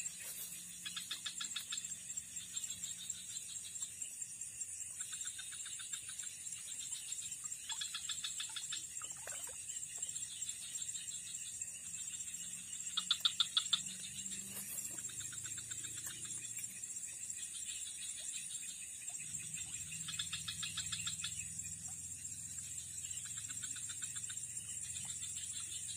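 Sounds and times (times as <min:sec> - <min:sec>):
high-pitched insect buzz: 0:00.0 - 0:25.9.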